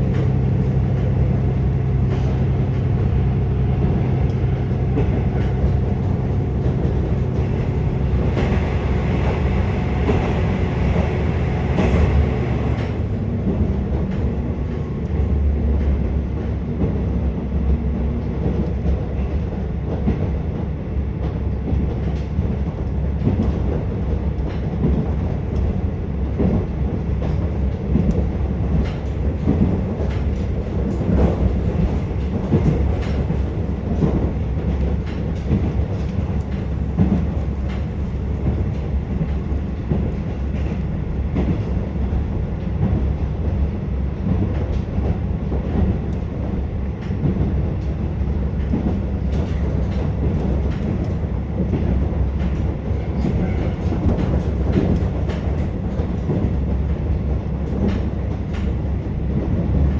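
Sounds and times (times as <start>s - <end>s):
rail joint clicks: 0.0s - 59.9s.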